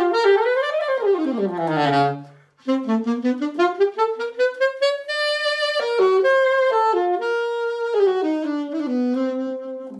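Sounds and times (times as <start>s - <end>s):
solo alto saxophone: 0.0s - 9.9s.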